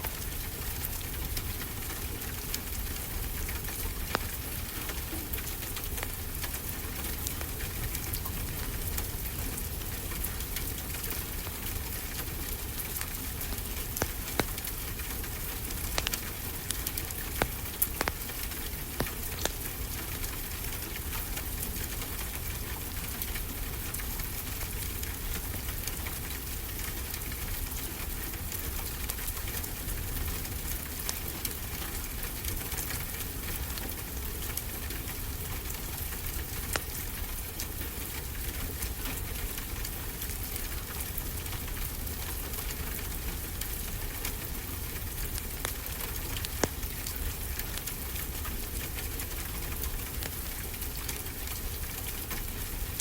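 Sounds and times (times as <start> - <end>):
fireplace crackling and popping: 0.0 - 53.0.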